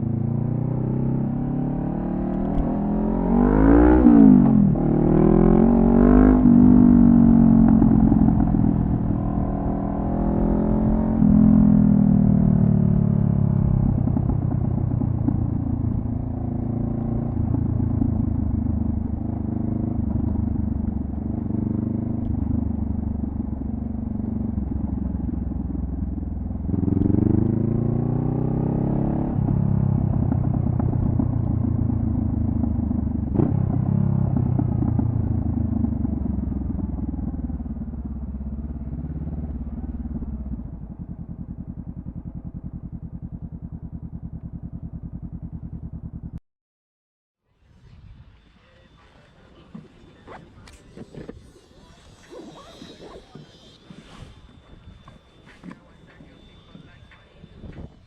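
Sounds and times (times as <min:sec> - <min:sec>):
motorcycle engine revving: 0:00.0 - 0:46.4, 0:47.7 - 0:58.0.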